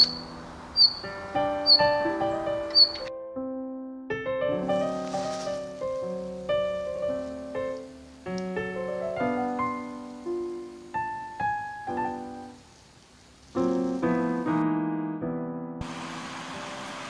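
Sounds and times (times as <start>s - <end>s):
slow piano music: 0.0s - 12.7s, 13.5s - 17.0s.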